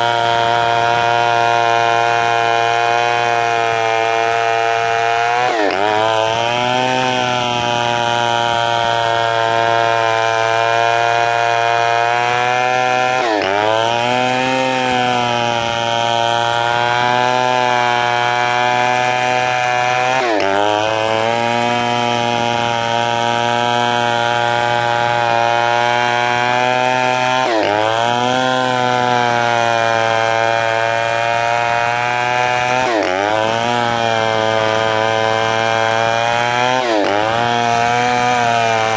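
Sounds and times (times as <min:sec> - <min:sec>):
two-stroke chainsaw engine running: 0:00.0 - 0:38.9.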